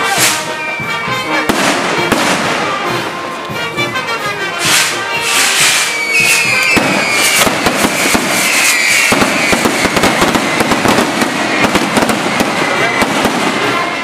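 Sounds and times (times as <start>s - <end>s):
fireworks whistling: 0.0s - 3.1s, 4.6s - 14.0s
fireworks crackling and popping: 0.0s - 14.0s.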